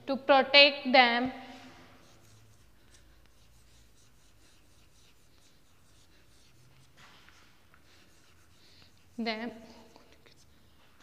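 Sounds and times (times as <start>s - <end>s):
chalk scratching on blackboard: 1.5s - 10.8s.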